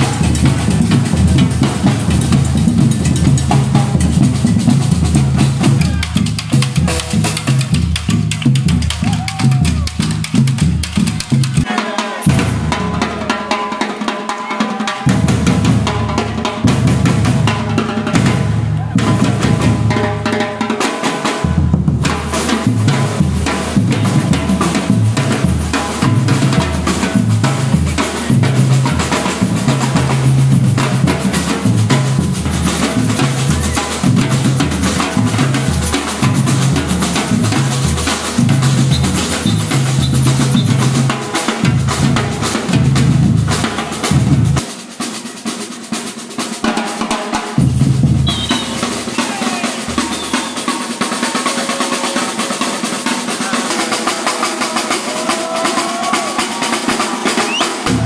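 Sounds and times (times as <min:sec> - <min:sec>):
drum kit music: 0:00.0 - 0:58.0.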